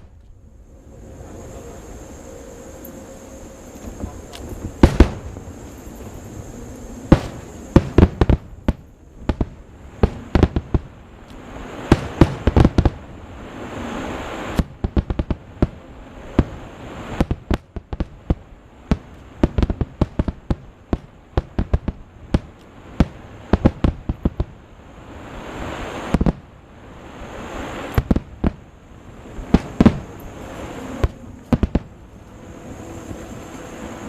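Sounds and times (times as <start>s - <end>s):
rushing hiss: 0.0s - 34.0s
fireworks bangs: 3.6s - 34.0s.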